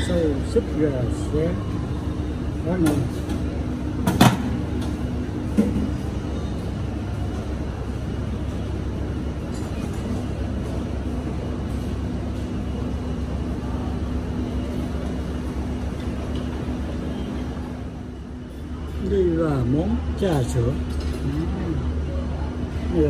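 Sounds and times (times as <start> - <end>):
restaurant ventilation rumble: 0.0 - 23.0.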